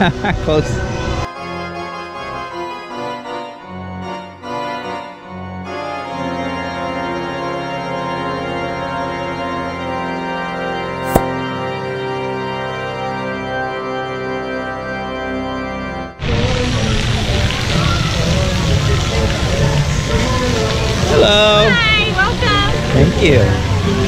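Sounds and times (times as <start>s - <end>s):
keyboard chords music: 0.0s - 24.0s.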